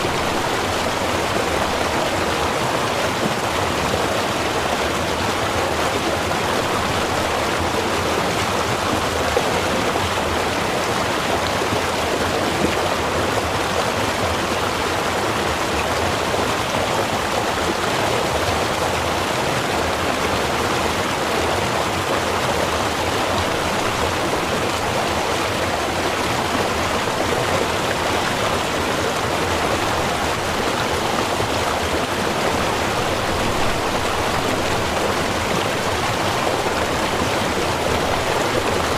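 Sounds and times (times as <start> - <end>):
stream burbling over rocks: 0.0 - 38.9.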